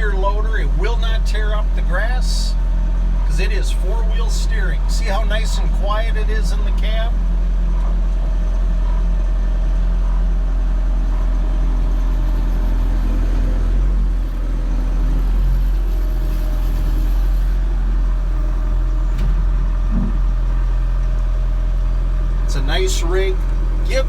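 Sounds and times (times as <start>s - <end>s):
diesel engine drone from inside cab: 0.0s - 24.0s.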